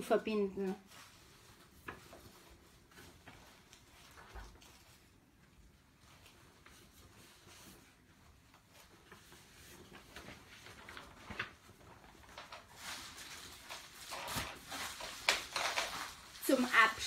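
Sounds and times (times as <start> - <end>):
soft rustles: 0.0 - 17.0.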